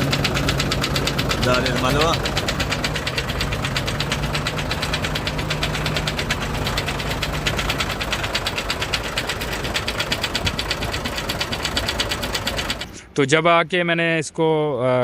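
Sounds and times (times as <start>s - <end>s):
diesel engine knocking: 0.0s - 13.0s.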